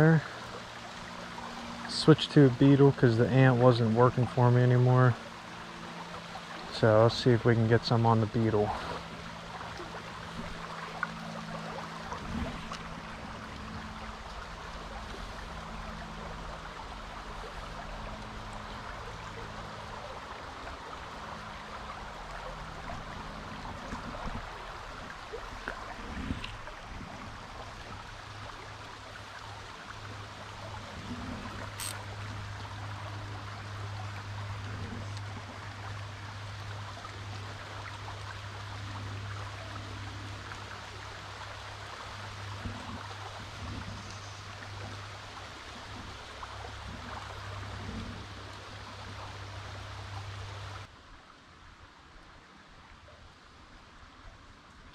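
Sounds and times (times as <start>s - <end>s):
low steady hum: 0.0s - 54.9s
stream running over rocks: 0.0s - 54.9s.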